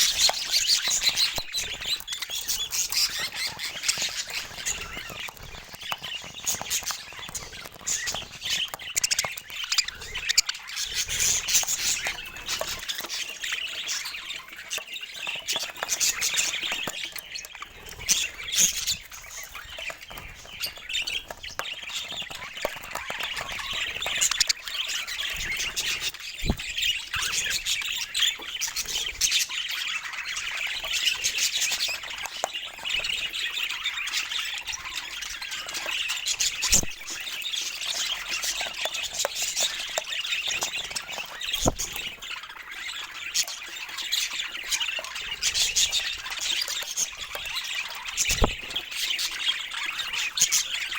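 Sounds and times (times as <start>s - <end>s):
budgerigars chirping: 0.0s - 50.9s.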